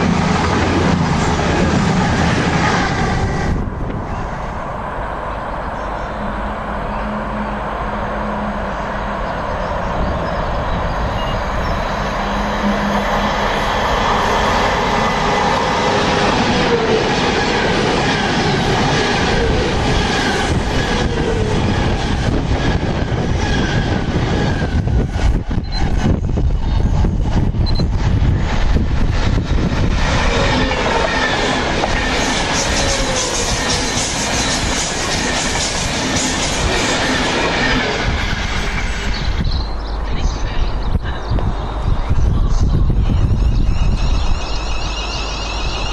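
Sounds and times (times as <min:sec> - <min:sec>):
train wheel and rail rumble: 0:00.0 - 0:45.9.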